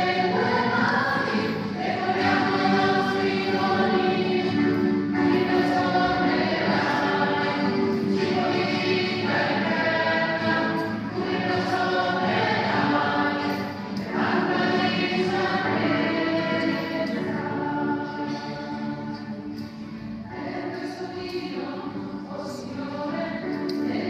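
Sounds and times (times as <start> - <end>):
choir singing a hymn: 0.0 - 24.0.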